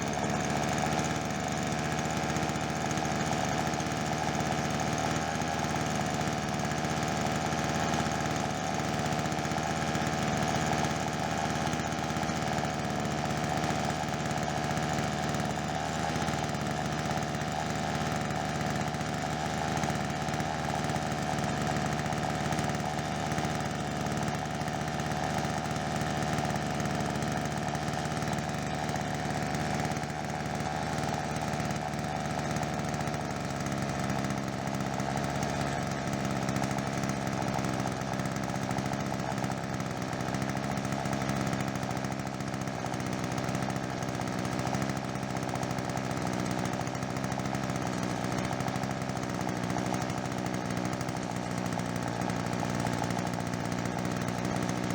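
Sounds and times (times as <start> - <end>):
strimmer engine running: 0.0 - 54.9.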